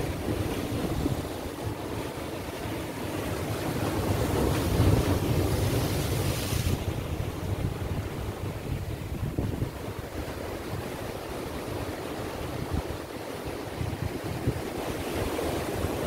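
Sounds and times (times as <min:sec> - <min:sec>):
surf breaking over rocks: 0:00.0 - 0:16.0
wind rumble on microphone: 0:00.0 - 0:16.0.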